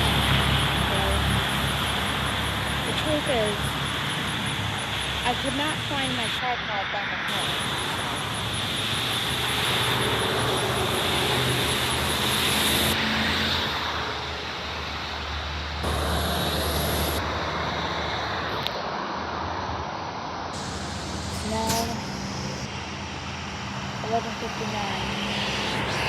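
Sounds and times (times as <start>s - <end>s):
vehicle engines: 0.0s - 26.0s.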